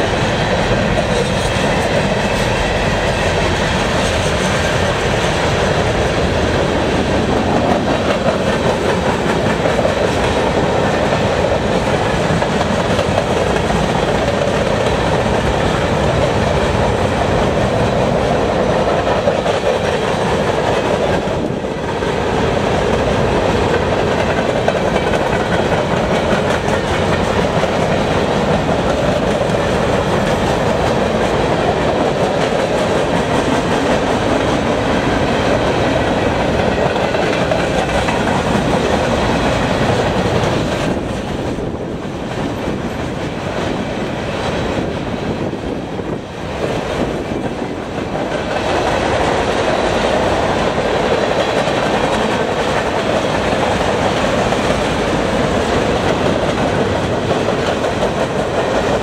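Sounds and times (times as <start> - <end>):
train wheels rattling on rails: 0.0 - 59.0.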